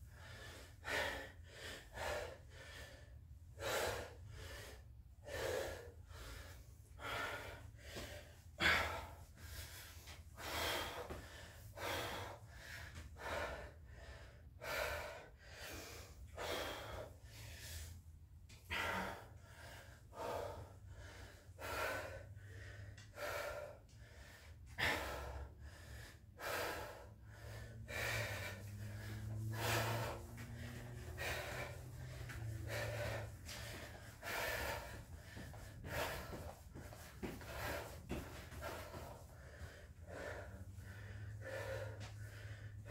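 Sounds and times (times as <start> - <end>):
man breathing hard: 0.0 - 42.9.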